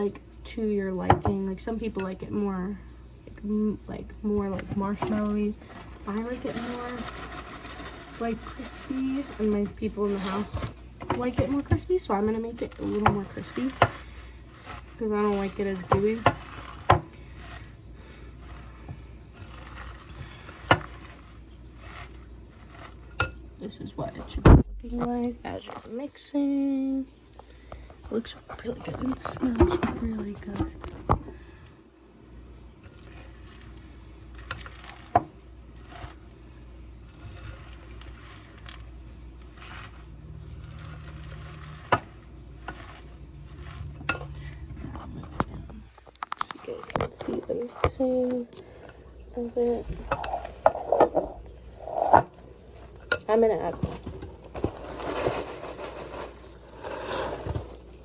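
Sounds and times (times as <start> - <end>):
faint steady rustle: 0.0 - 58.0
spoon stirring cereal: 1.5 - 24.2, 32.4 - 58.0.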